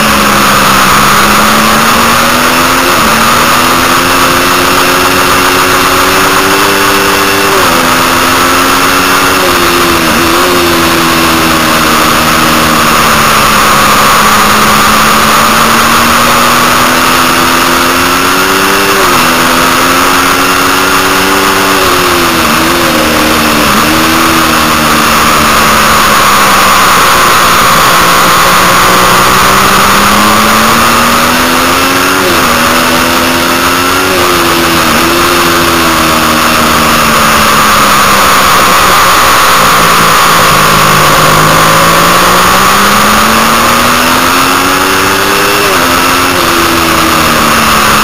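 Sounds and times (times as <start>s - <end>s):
motorcycle engine at race pace: 0.0s - 48.0s.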